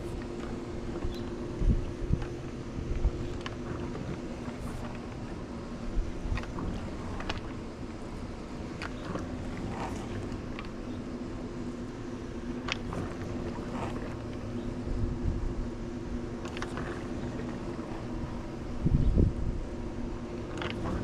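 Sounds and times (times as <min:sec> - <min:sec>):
pool pump motor humming: 0:00.0 - 0:21.0.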